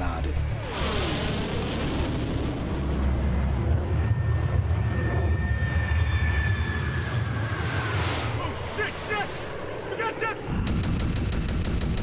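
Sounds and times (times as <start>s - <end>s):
heavy jet engine rumble: 0.0s - 12.0s
high jet whine falling in pitch: 0.6s - 11.6s.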